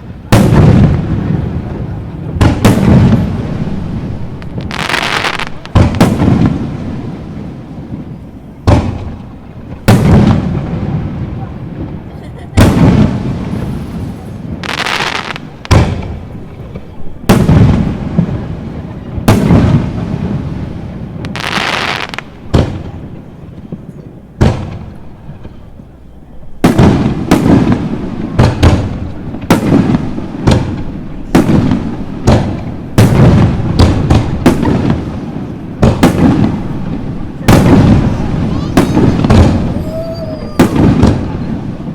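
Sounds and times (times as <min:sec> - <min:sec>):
fireworks bursting with bangs: 0:00.0 - 0:41.9
fireworks hissing crackle: 0:00.0 - 0:41.9.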